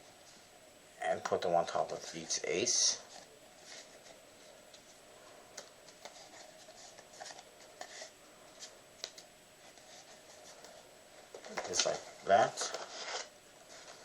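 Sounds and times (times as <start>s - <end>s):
room hiss: 0.0s - 14.0s
playing cards tapping and sliding: 1.1s - 2.4s, 3.1s - 14.0s.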